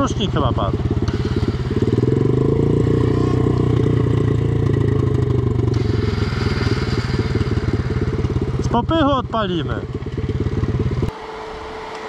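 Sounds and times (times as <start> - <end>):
dirt bike engine idling: 0.0 - 11.1.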